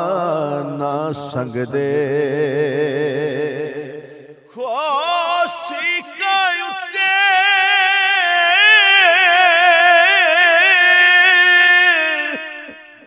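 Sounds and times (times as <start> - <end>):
man singing long ornamented note: 0.0 - 13.0.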